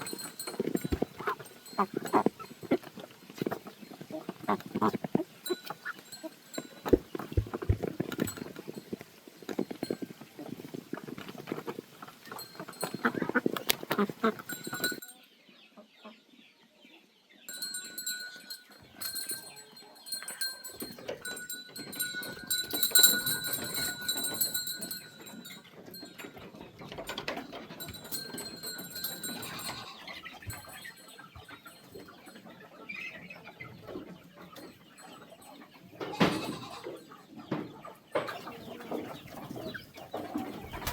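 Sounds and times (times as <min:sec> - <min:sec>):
chickens clucking: 0:00.0 - 0:40.9
farmyard animal sounds: 0:00.0 - 0:40.9.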